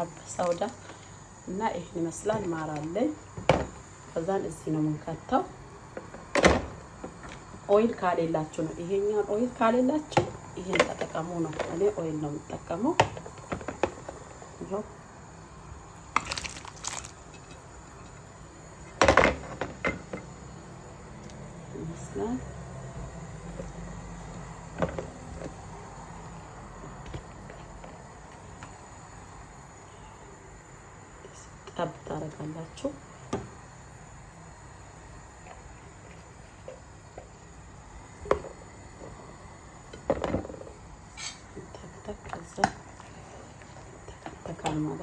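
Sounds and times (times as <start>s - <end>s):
faint steady hiss: 0.0s - 45.0s.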